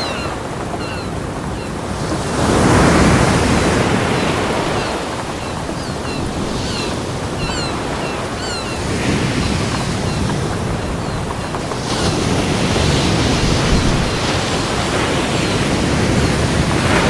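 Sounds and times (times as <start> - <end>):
ocean surf rushing: 0.0 - 17.0.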